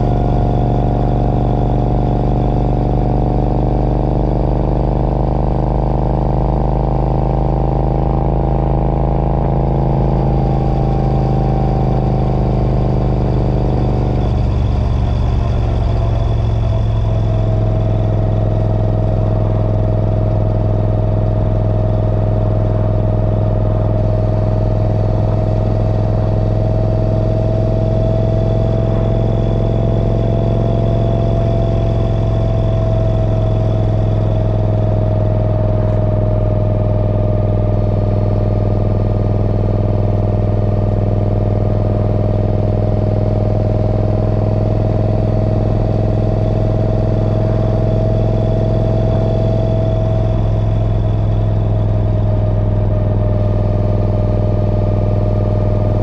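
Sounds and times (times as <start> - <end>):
road noise: 0.0 - 3.2, 4.3 - 56.0
engine running steadily: 0.0 - 56.0
steady whine: 0.0 - 56.0.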